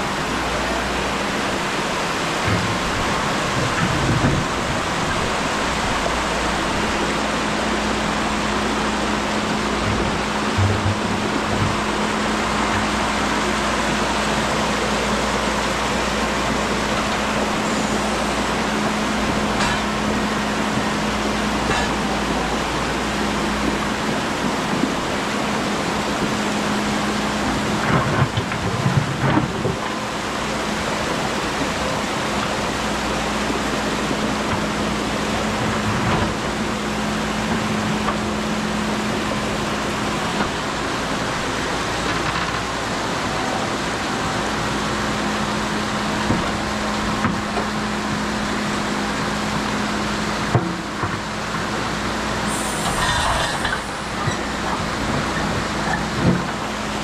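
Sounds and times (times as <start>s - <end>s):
excavator engine humming: 0.0s - 57.0s.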